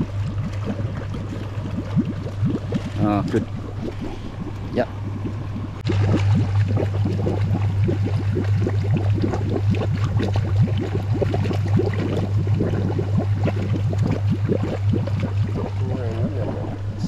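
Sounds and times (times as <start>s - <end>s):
steady low hum: 0.0s - 17.0s
water bubbling and gurgling: 0.0s - 17.0s.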